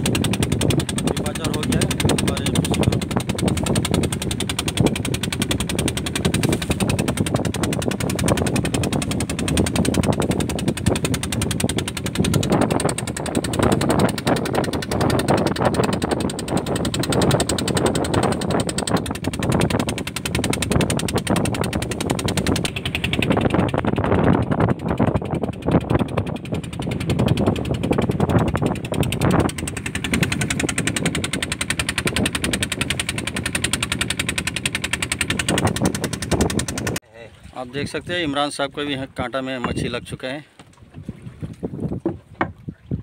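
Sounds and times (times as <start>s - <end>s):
boat engine pulsing: 0.0s - 43.0s.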